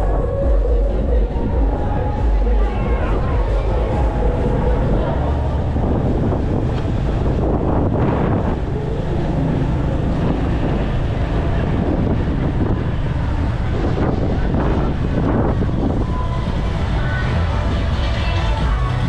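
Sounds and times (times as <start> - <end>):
traffic: 0.0 - 19.0
wind buffeting microphone: 0.0 - 19.0.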